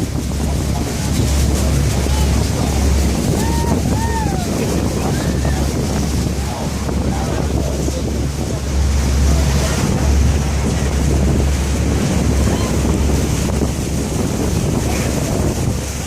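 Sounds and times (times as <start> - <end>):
deep rumble: 0.0 - 16.0
rushing water: 0.0 - 16.0
wind buffeting microphone: 0.0 - 16.0.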